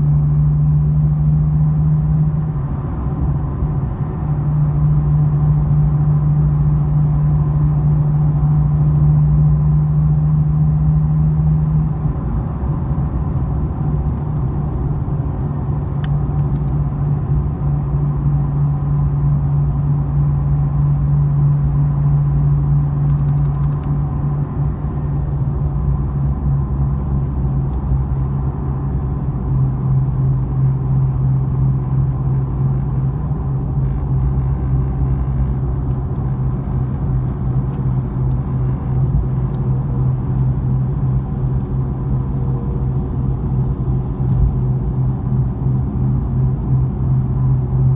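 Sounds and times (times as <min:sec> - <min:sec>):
car exhaust drone: 0:00.0 - 0:47.9.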